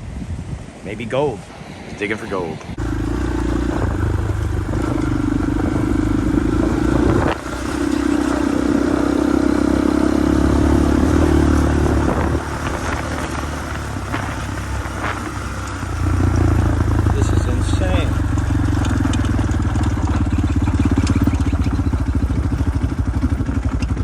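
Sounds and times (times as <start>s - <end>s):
motorbike engine running: 2.8s - 24.0s.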